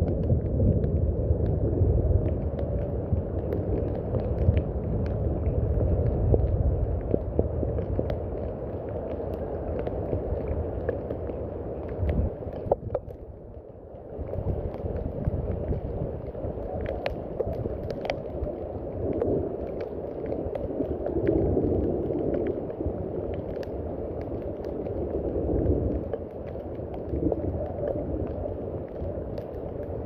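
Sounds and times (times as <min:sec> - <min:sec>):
sharp drip ticks: 0:00.0 - 0:30.0
steady rain: 0:00.0 - 0:30.0.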